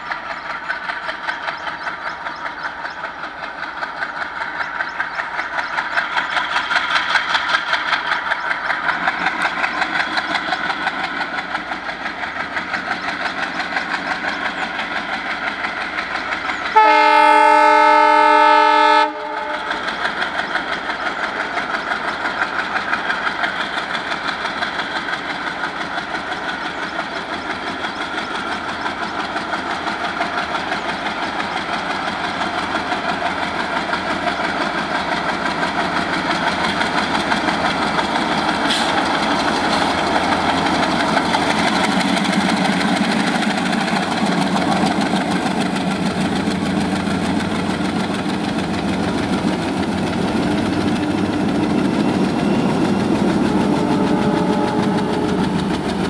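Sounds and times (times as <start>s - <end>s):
diesel locomotive engines chugging: 0.0s - 56.0s.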